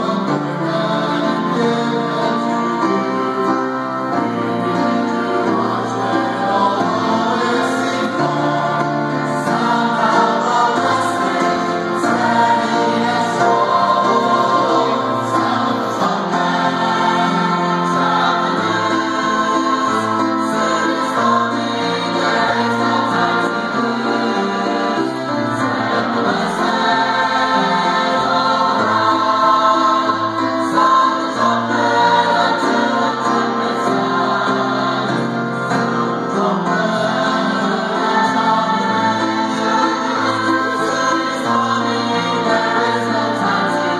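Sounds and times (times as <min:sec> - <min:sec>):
choir singing gospel: 0:00.0 - 0:43.9.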